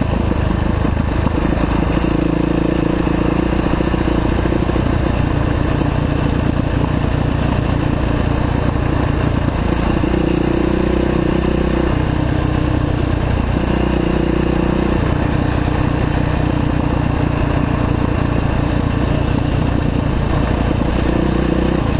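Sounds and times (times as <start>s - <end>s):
dirt bike engine running: 0.0s - 21.9s.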